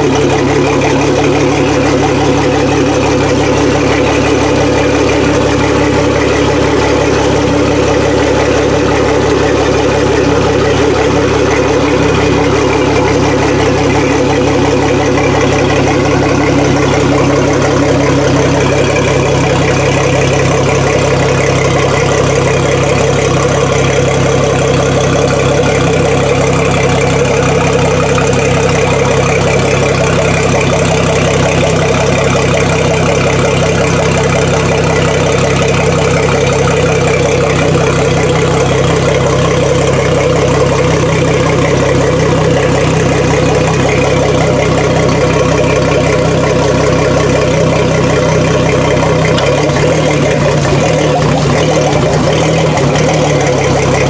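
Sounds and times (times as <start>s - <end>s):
outboard motor idling: 0.0s - 54.0s.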